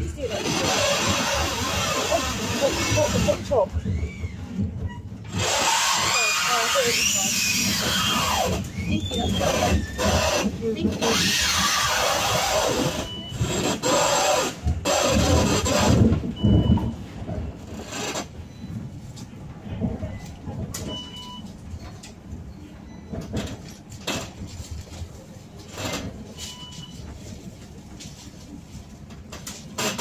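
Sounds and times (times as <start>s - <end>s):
tram running rumble: 0.0s - 26.4s.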